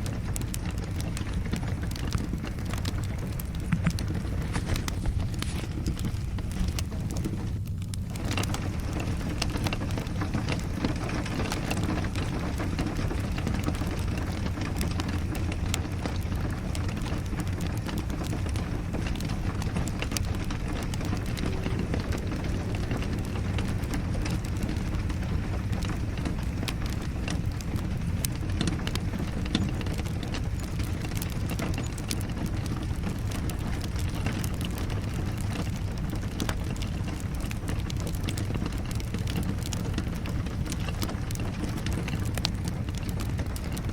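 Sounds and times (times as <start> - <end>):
low rumble: 0.0 - 43.9
steady rain: 0.0 - 43.9
wood fire crackling: 0.0 - 43.9.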